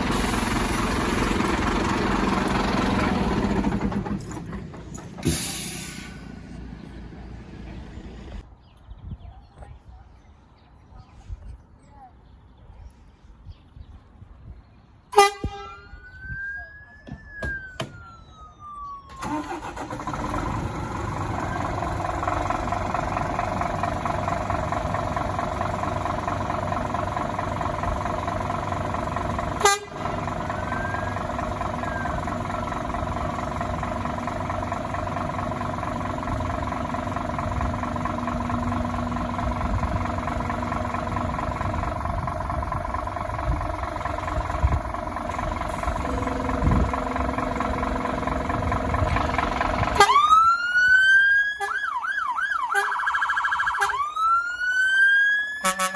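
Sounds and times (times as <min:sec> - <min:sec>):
diesel engine running: 0:00.0 - 0:08.4, 0:17.6 - 0:55.9.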